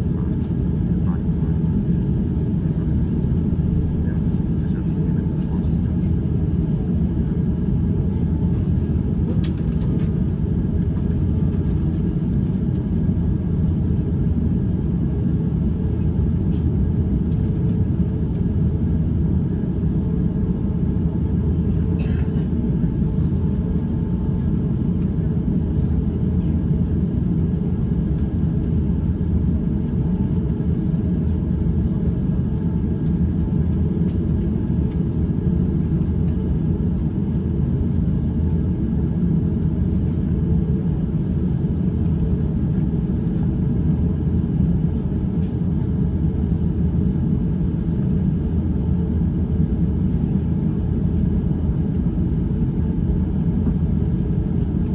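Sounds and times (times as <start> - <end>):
wheels rumbling on taxiway: 0.0 - 13.9, 15.1 - 48.1
jet engines at low thrust: 0.0 - 54.9.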